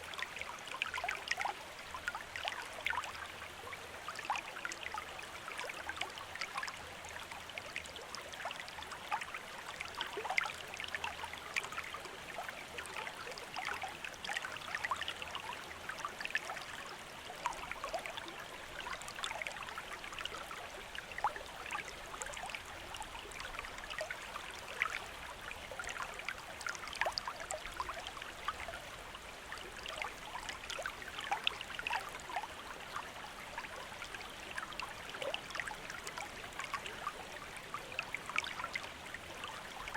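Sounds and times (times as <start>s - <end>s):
stream bubbling over stones: 0.0s - 39.9s.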